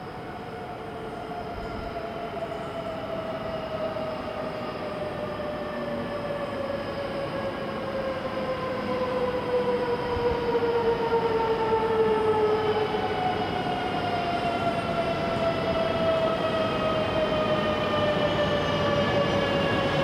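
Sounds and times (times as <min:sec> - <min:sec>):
train electric drive whine: 0:00.0 - 0:20.0.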